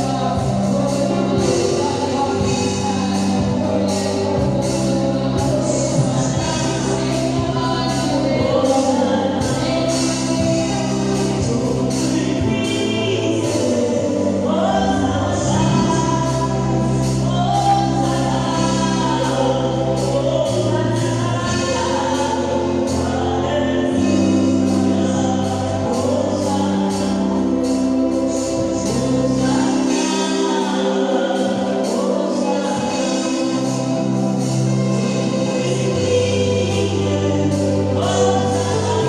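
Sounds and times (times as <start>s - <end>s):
band with bass and keyboard: 0.0s - 39.0s
gospel choir singing: 0.0s - 39.0s.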